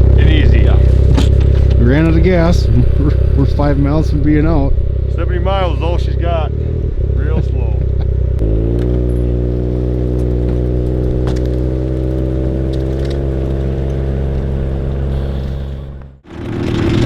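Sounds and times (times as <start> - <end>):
loud engine: 0.0 - 17.0
off-road vehicle engine running: 0.0 - 17.0.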